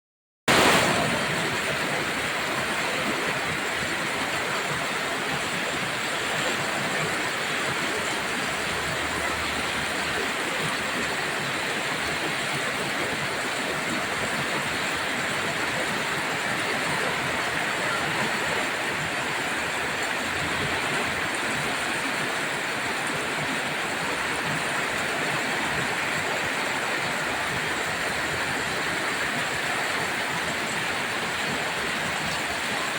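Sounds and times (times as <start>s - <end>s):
heavy rain falling: 0.5s - 32.9s.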